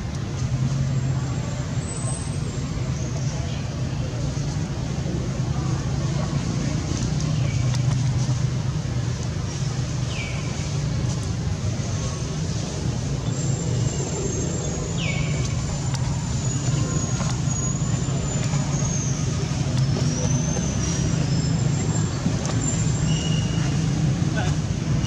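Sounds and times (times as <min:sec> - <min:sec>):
low engine-like hum: 0:00.0 - 0:25.0
murmur of distant voices: 0:00.0 - 0:25.0.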